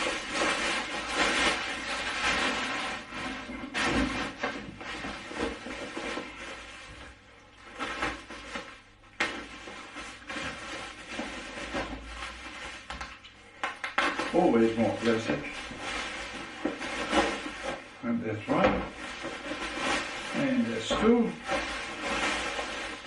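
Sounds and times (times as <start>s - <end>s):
plastic wrap crinkling: 0.0s - 23.0s.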